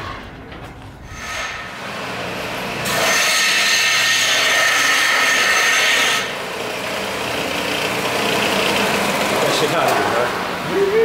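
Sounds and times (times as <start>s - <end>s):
machine hum: 0.0s - 11.0s
power tool grinding metal: 1.2s - 10.5s.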